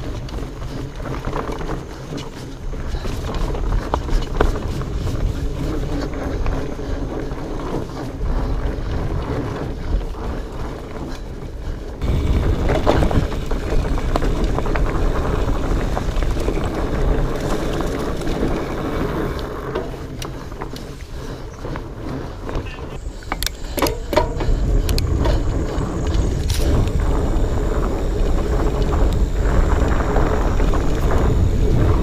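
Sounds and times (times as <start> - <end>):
bike rattling and knocking: 0.0 - 32.0
bike tyres rumbling on trail: 0.0 - 32.0
wind on microphone: 0.0 - 32.0.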